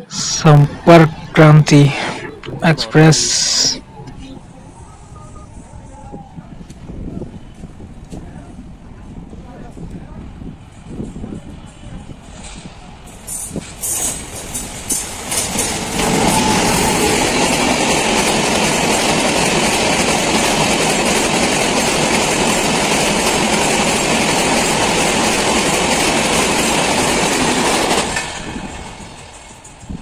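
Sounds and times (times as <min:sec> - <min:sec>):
train rumbling over rails: 0:00.0 - 0:30.0.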